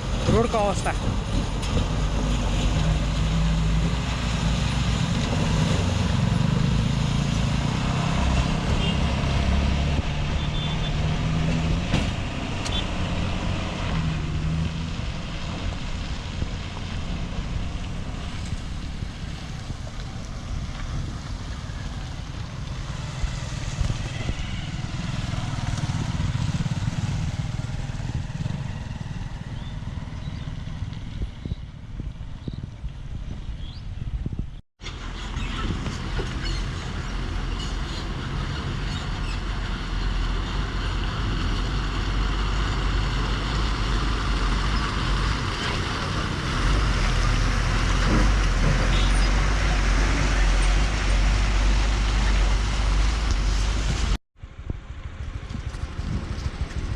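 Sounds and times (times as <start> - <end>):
road noise: 0.0 - 56.9
vehicle engine hum: 0.0 - 56.9.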